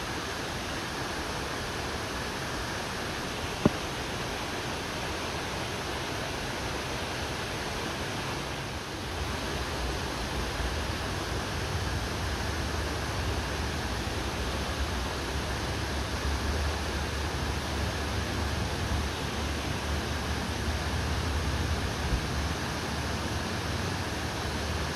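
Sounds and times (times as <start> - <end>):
stream rushing over rocks: 0.0 - 24.9.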